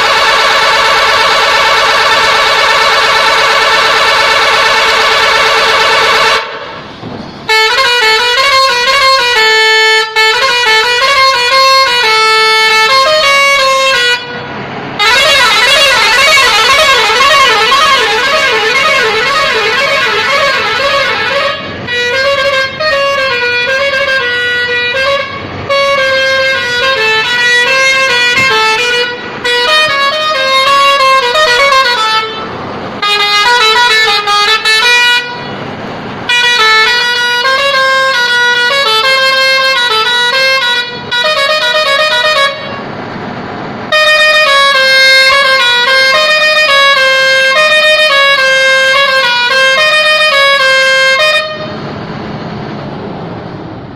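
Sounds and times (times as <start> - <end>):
truck musical horn playing tune: 0.0 - 43.0, 43.9 - 51.9.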